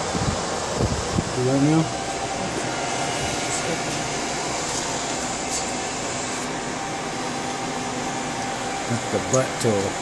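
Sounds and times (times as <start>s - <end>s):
cooling fans whirring: 0.0s - 10.0s.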